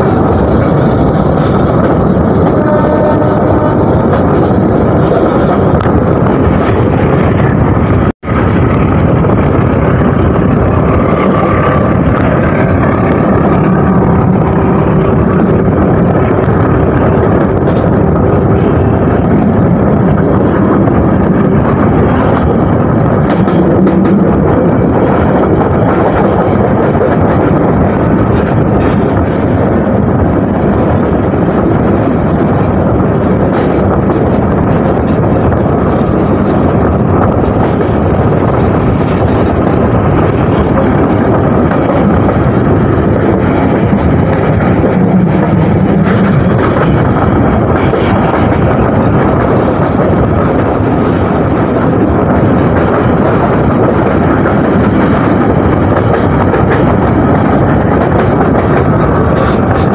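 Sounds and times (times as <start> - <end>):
train rumbling at speed: 0.0 - 59.9
wind buffeting microphone: 0.0 - 59.9.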